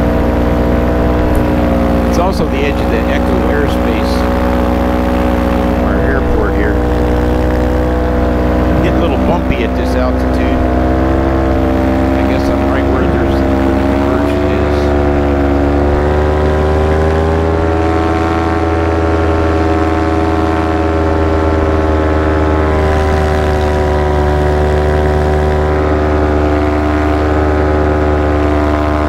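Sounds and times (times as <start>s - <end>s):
paramotor engine and propeller drone: 0.0s - 29.0s.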